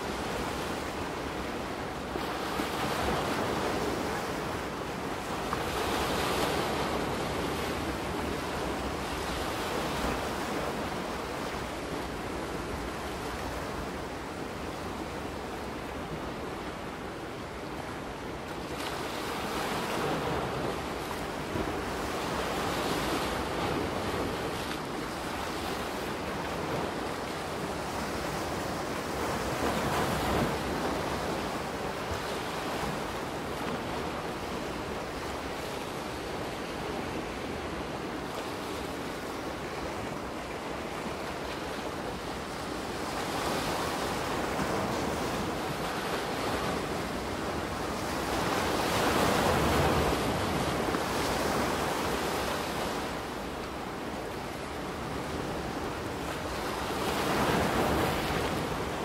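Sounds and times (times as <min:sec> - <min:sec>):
ocean waves washing onto beach: 0:00.0 - 0:59.0.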